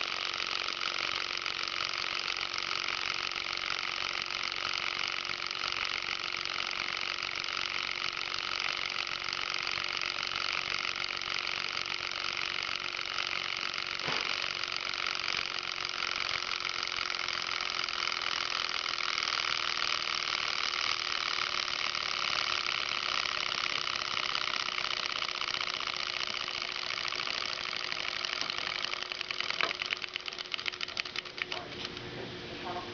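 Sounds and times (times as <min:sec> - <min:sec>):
stirling engine whirring: 0:00.0 - 0:32.2.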